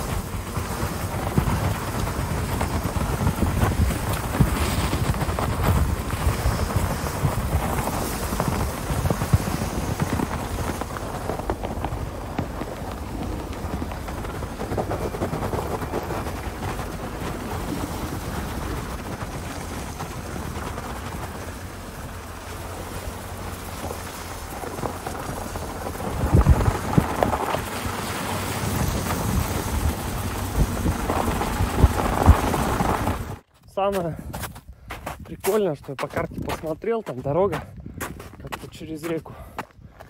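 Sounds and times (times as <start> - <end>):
snow crunching under tyres: 0.0 - 40.0.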